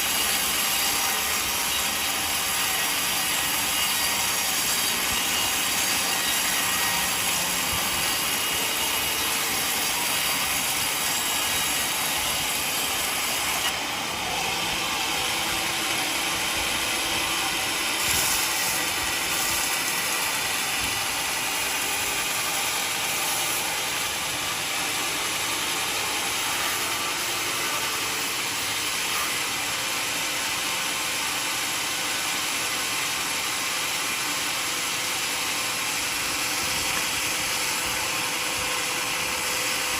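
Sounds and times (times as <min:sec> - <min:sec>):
sawmill blade cutting log: 0:00.0 - 0:39.9.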